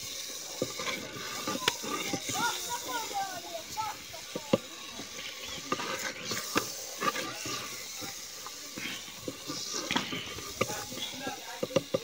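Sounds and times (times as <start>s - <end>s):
simmering hiss: 0.0s - 12.0s
wooden spoon scraping clay pot: 0.0s - 12.0s.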